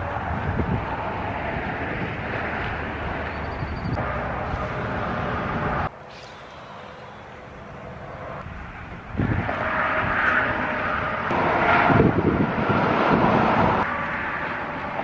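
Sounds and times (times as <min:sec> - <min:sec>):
passing engine drone: 0:00.0 - 0:15.0.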